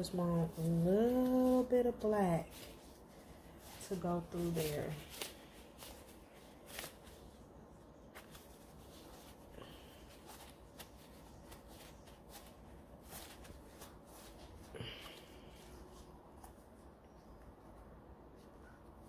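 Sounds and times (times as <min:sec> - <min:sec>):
faint clicks and rustles: 0:00.0 - 0:19.0.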